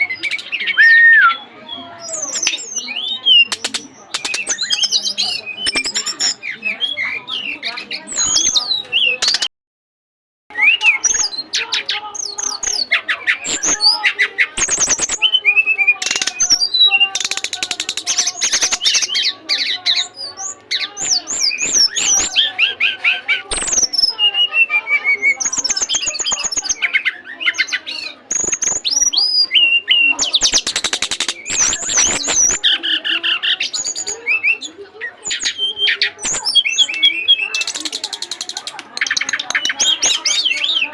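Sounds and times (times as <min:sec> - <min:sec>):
lovebird singing rapid chirps: 0:00.0 - 0:09.5, 0:10.6 - 0:40.9.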